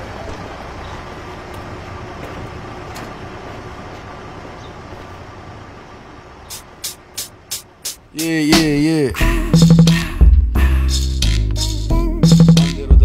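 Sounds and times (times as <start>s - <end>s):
heavy trucks rumbling: 0.0s - 13.0s.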